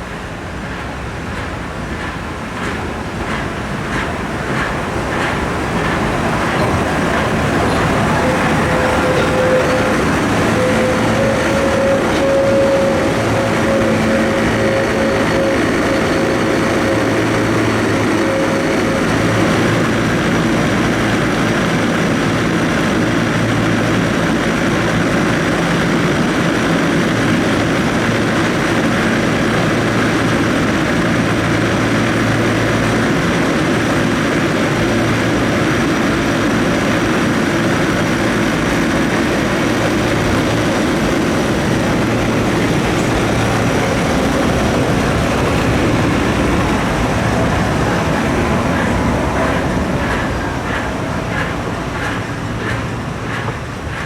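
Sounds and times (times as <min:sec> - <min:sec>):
tram rumbling: 0:00.0 - 0:54.0.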